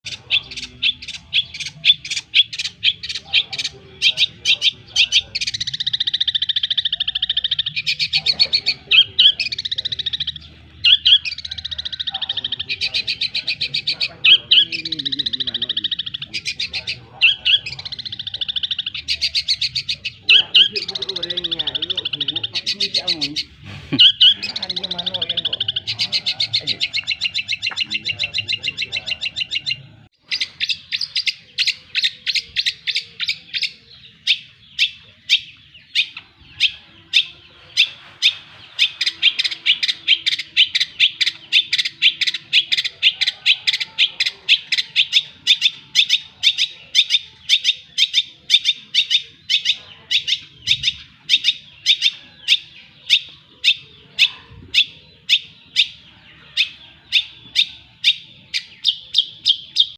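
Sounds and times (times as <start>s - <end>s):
songbird chirping: 0.0s - 59.9s
songbird trilling: 0.0s - 59.9s.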